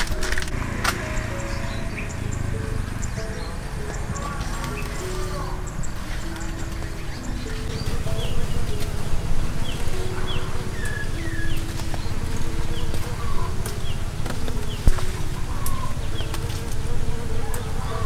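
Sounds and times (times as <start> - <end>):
insects buzzing: 0.0 - 18.0
small birds chirping: 0.0 - 18.0.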